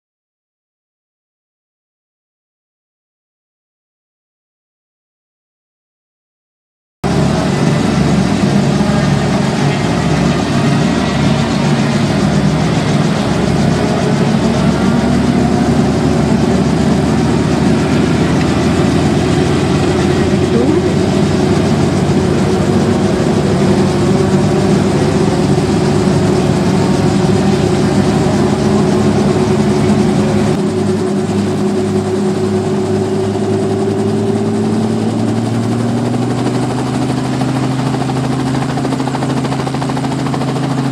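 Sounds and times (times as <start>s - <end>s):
helicopter engine and rotor drone: 7.0s - 40.9s
rising tone of helicopter lifting off: 7.0s - 40.9s.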